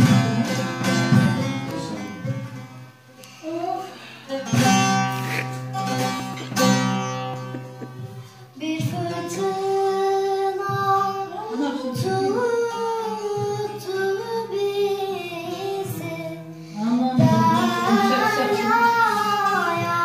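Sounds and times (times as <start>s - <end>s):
plucked long-necked lute: 0.0s - 20.0s
girl singing slow melody: 3.2s - 20.0s.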